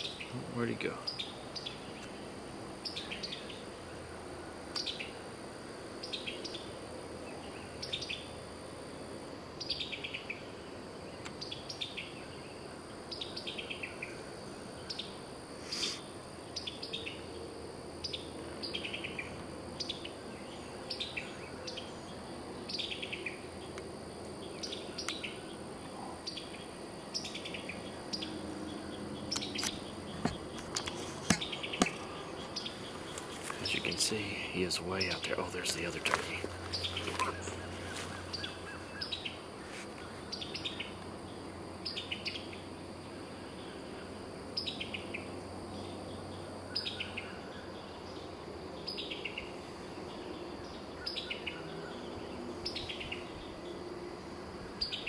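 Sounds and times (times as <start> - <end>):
insects droning: 0.0 - 55.0
songbirds singing: 0.0 - 55.0.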